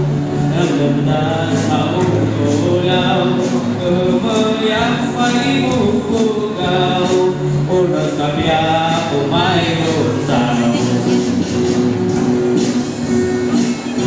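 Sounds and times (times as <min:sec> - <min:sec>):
music accompaniment: 0:00.0 - 0:14.0
person singing: 0:00.0 - 0:14.0.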